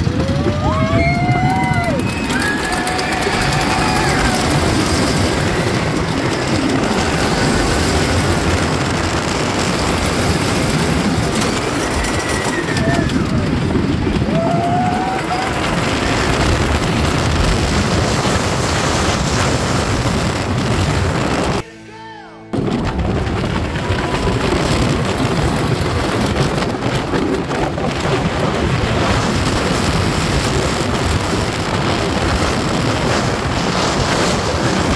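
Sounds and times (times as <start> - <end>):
roller coaster wheels clattering: 0.0 - 21.6, 22.6 - 34.9
wind on microphone: 0.0 - 21.6, 22.6 - 34.9.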